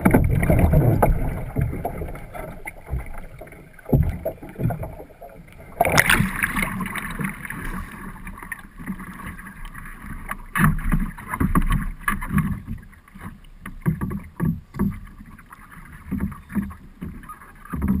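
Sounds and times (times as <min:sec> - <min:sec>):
paddle splashes: 0:00.0 - 0:18.0
water rushing and splashing: 0:00.0 - 0:18.0
water slapping against kayak hull: 0:00.0 - 0:18.0.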